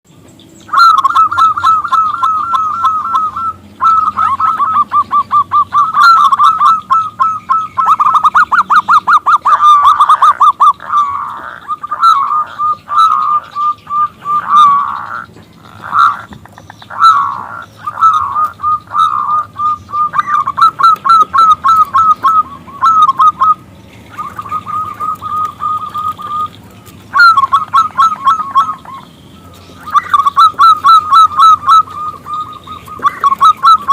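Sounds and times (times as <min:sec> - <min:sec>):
dove trilling call: 0:00.1 - 0:33.9.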